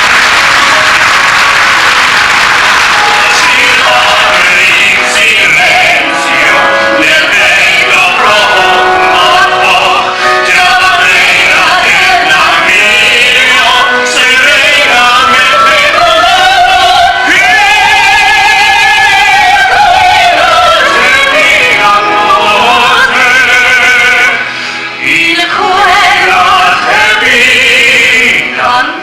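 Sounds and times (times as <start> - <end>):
musical accompaniment: 0.0 - 29.0
person singing operatically: 3.0 - 29.0.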